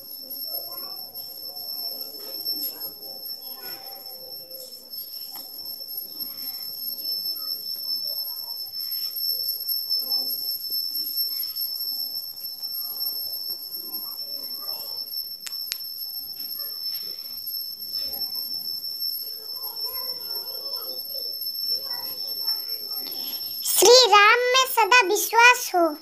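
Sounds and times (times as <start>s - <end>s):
faint indistinct voices: 0.0s - 26.0s.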